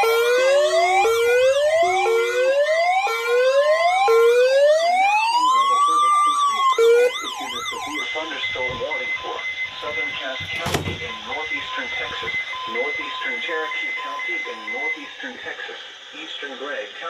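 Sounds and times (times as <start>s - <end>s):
siren yelp warbling: 0.0s - 13.8s
electronic siren wail: 0.0s - 15.0s.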